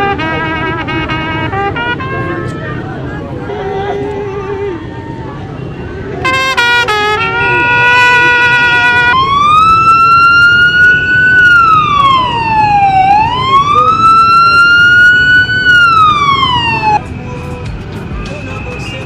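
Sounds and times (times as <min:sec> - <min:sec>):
ambulance siren wailing: 0:00.0 - 0:03.4, 0:04.3 - 0:17.0.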